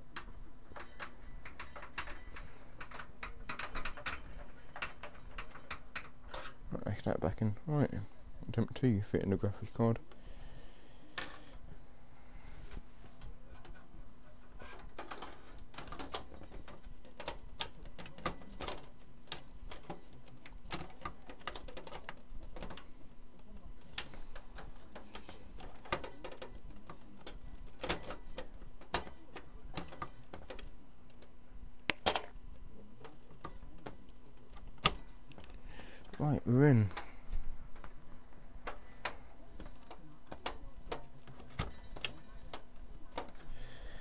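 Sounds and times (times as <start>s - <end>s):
clicks and scrapes of graphics card: 0.0s - 6.6s, 12.4s - 44.0s
faint steady hum: 0.0s - 44.0s.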